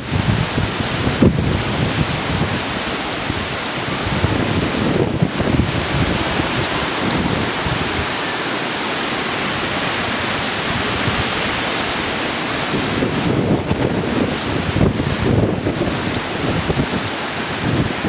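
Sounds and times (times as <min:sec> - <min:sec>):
wind buffeting microphone: 0:00.0 - 0:08.3, 0:09.3 - 0:18.0
wind roaring: 0:00.0 - 0:18.0.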